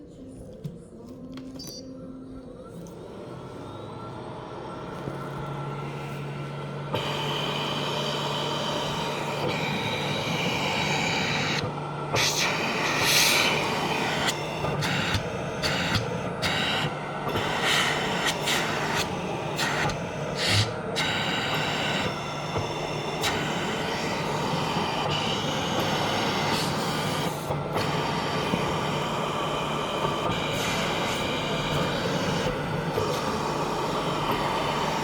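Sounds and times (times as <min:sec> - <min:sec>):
constant hum: 0:00.0 - 0:35.0
blower whirring: 0:02.8 - 0:35.0.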